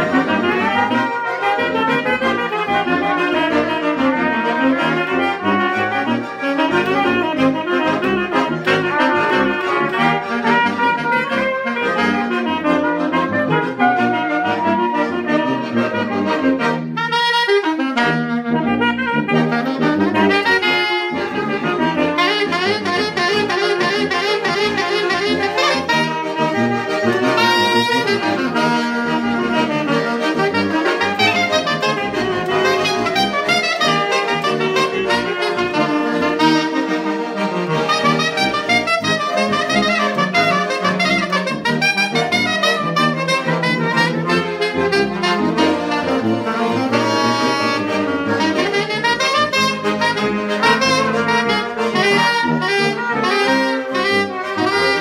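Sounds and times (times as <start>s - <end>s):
accordion: 0.0s - 55.0s
saxophones playing melody: 0.0s - 55.0s.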